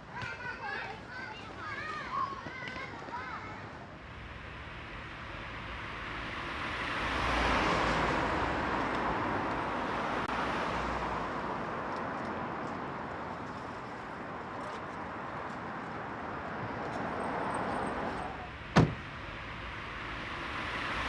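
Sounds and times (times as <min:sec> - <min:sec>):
cars driving past: 0:03.9 - 0:21.0.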